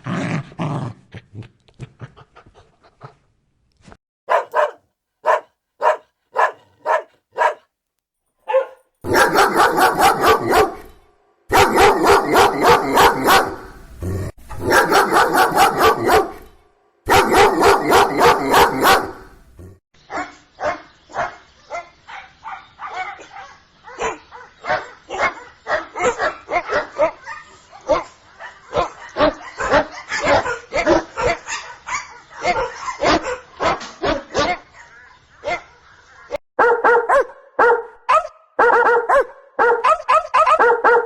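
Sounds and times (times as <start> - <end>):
dogs barking: 4.3 - 7.7, 8.5 - 10.9, 11.5 - 13.7, 14.5 - 16.5, 17.1 - 19.4, 20.1 - 41.0.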